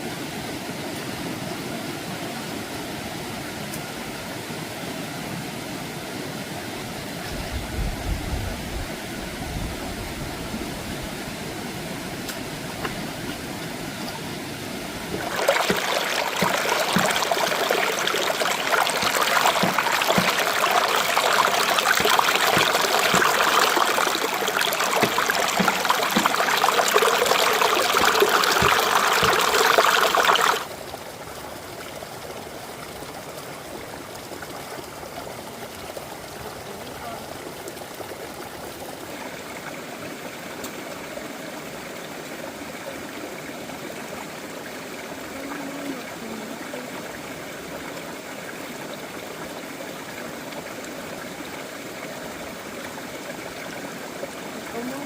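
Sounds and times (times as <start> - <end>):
stream water running and splashing: 0.0 - 55.0.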